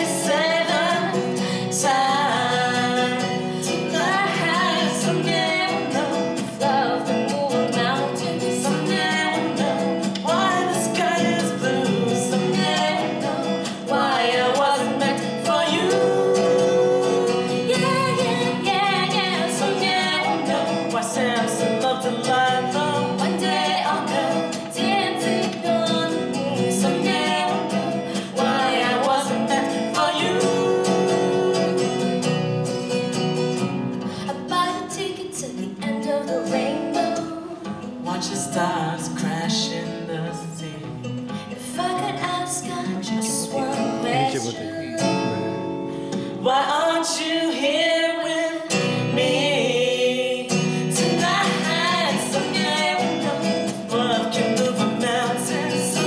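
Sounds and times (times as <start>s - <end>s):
person singing: 0.0s - 32.2s, 42.8s - 56.0s
acoustic guitar: 0.0s - 56.0s.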